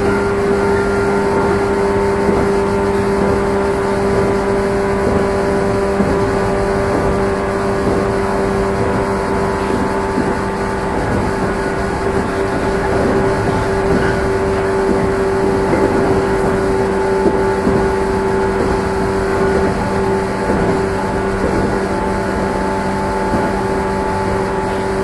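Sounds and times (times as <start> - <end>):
electric train motor whine: 0.0 - 25.0
wheels rumbling on rail: 0.0 - 25.0.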